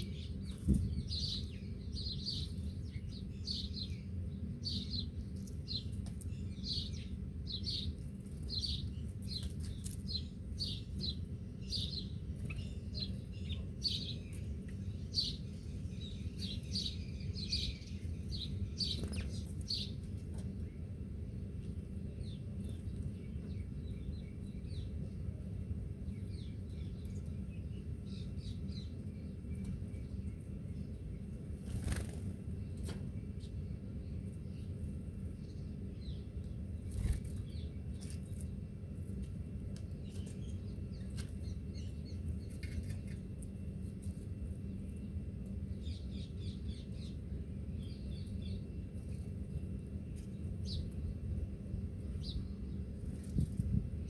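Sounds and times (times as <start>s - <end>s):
small birds chirping: 0.0s - 54.0s
steady low rumble: 0.0s - 54.0s.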